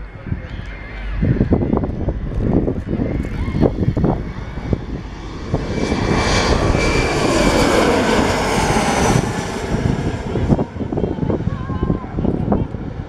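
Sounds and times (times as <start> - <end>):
airliner passing low overhead: 0.0 - 13.0.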